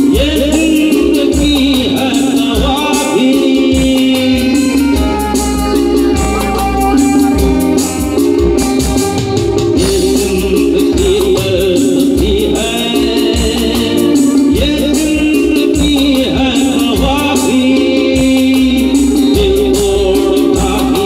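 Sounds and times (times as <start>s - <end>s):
live band playing a film song: 0.0s - 21.0s
man singing: 0.0s - 21.0s.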